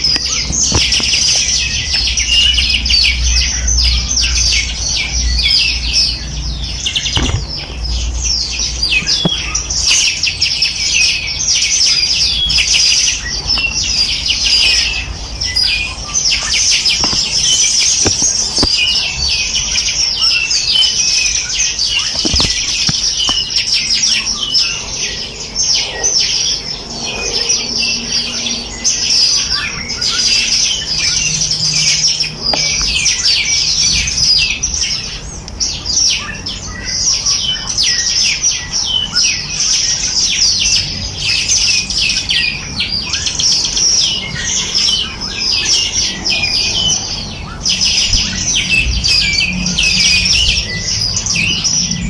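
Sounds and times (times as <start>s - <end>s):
songbirds chirping and trilling: 0.0s - 52.0s.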